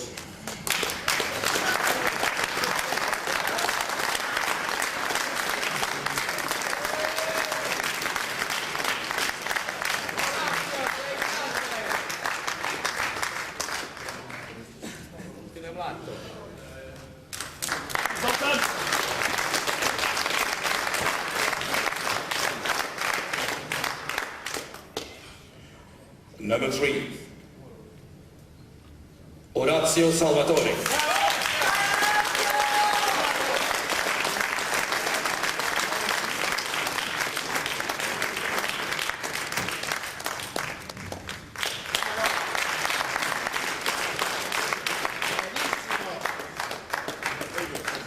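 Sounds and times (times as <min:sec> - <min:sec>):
audience applauding: 0:00.0 - 0:14.7, 0:17.4 - 0:25.0, 0:30.7 - 0:48.0.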